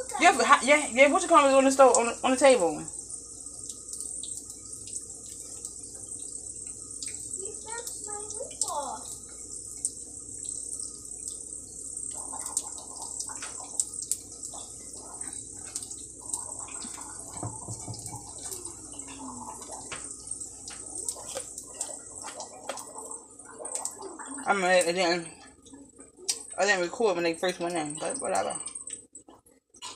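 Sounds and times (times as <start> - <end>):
food deep-frying in hot oil: 0.0 - 29.9.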